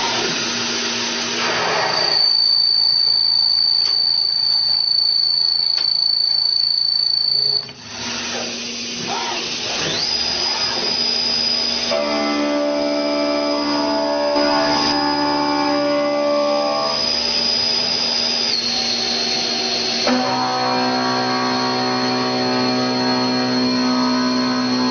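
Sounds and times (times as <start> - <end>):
machine spindle whining: 0.0 - 24.9.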